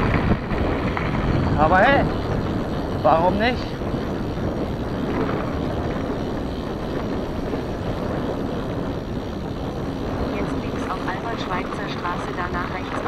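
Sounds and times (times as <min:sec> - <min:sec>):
bike tyre noise: 0:00.0 - 0:13.0
wind rumble on microphone: 0:00.0 - 0:13.0.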